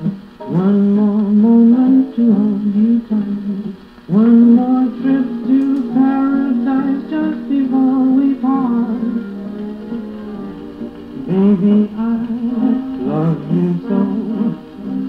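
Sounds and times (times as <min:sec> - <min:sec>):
big band music through radio speaker: 0:00.0 - 0:15.0.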